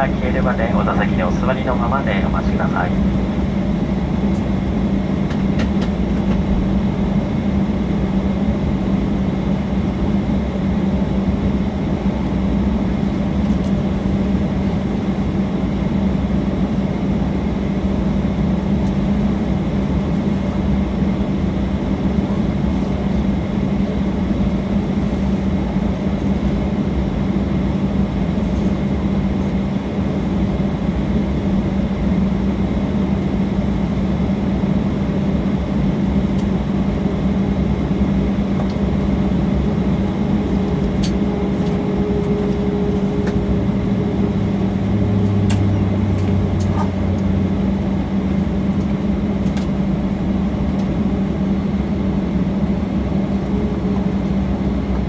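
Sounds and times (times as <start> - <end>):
jet engines idling in cabin: 0.0 - 55.0.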